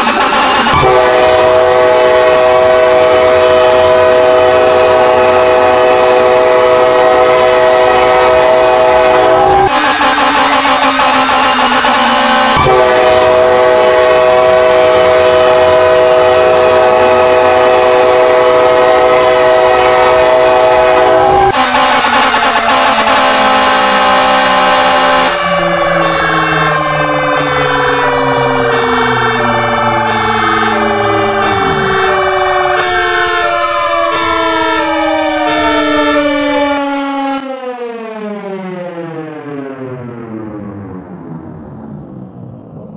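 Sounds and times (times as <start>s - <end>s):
low steady siren tone: 0.0s - 42.9s
wailing siren: 0.0s - 42.9s
multi-chime train horn chord: 0.7s - 36.8s.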